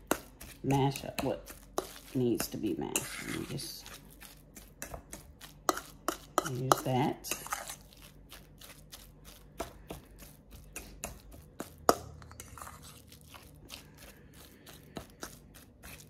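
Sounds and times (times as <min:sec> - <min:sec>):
fork scraping metal bowl: 0:00.0 - 0:09.4, 0:10.2 - 0:16.0.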